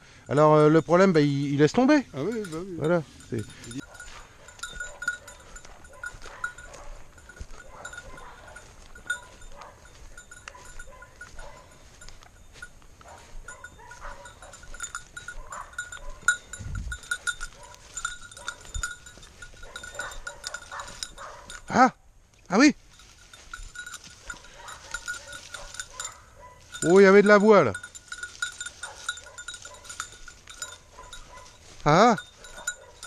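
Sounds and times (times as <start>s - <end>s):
small bell jingling: 0.0s - 33.0s
rustle of dry undergrowth: 2.3s - 33.0s.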